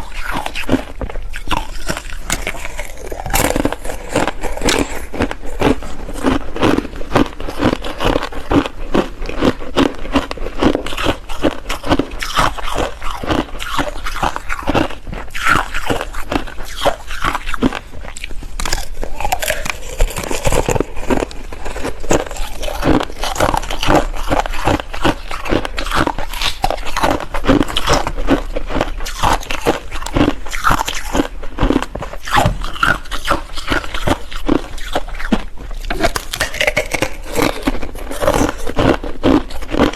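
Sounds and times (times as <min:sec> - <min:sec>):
ice being chewed and crunched: 0:00.0 - 0:39.9.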